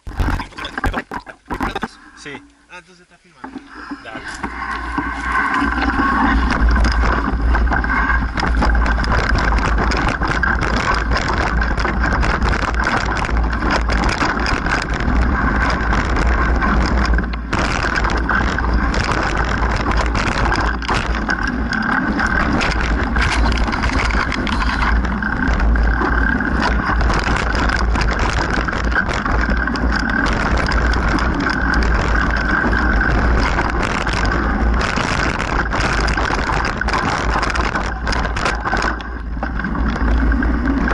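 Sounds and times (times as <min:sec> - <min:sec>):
bike clattering over bumps: 0:05.6 - 0:40.9
wind buffeting microphone: 0:05.6 - 0:40.9.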